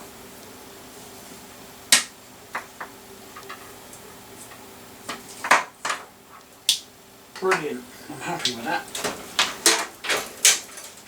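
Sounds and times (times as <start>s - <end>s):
computer fans humming: 0.0s - 11.0s.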